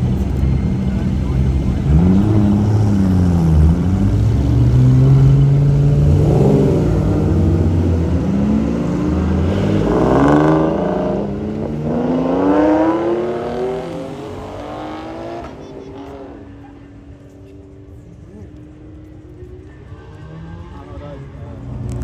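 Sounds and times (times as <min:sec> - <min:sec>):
car engine revving and accelerating: 0:00.0 - 0:22.0.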